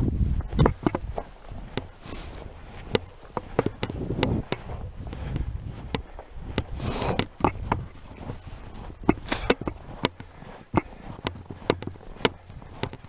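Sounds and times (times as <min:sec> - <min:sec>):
footsteps crunching through snow: 0:00.0 - 0:13.0.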